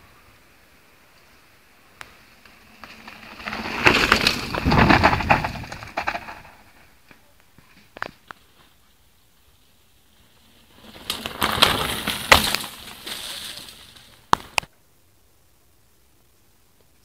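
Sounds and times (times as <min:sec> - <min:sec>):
bike tyres on dirt and stones: 0:00.0 - 0:14.7.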